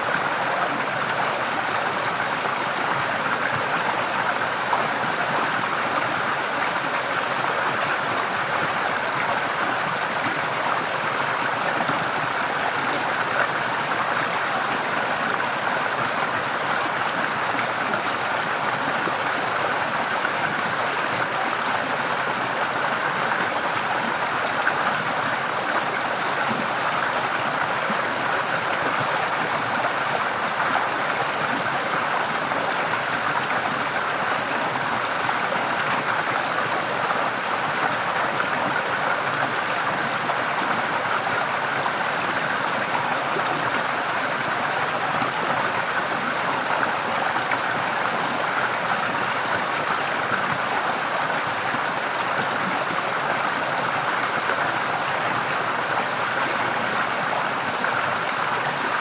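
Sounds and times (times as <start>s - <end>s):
stream water running and splashing: 0.0s - 59.0s.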